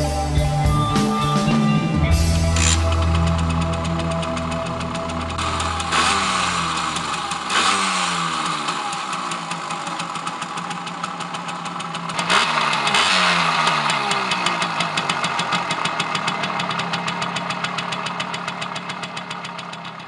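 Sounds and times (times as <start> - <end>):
engine revving: 0.0 - 18.4
two-stroke engine idling: 0.0 - 20.0.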